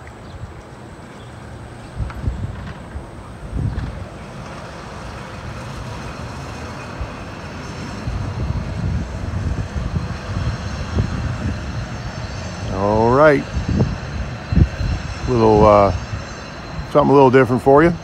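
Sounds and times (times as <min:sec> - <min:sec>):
low rumble: 0:01.8 - 0:18.0.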